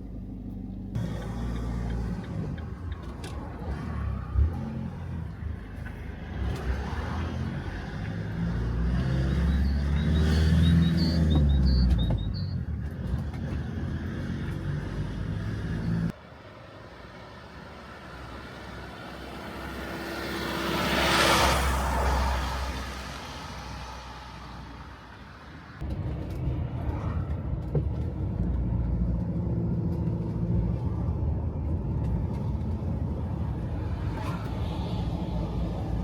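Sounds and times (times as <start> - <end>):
vehicle engine rumble: 0.0 - 36.0
vehicle driving past: 1.0 - 16.2, 17.3 - 36.0.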